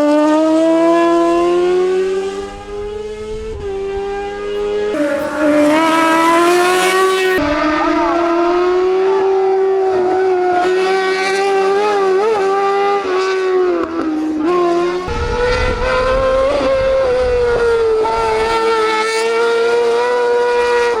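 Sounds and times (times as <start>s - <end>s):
racing car engine high revs: 0.2s - 21.0s.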